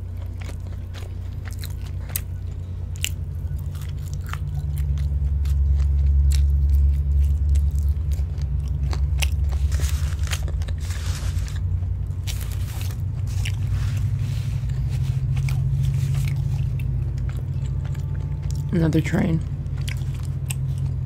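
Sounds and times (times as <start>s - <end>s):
crunching and chewing fried chicken: 0.0s - 21.0s
passing train rumble: 0.8s - 21.0s.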